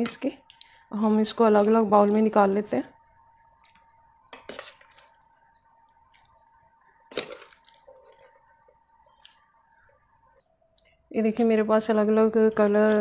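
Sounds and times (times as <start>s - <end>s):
soft squelches: 0.3s - 11.2s.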